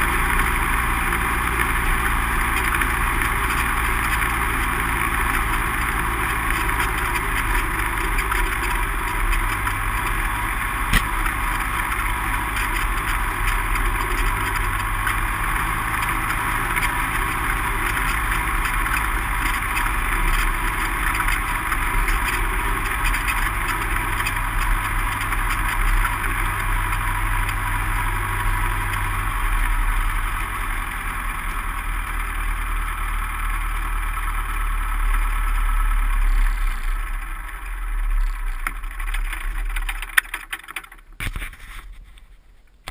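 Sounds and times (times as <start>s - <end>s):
light aircraft engine running: 0.0s - 42.2s.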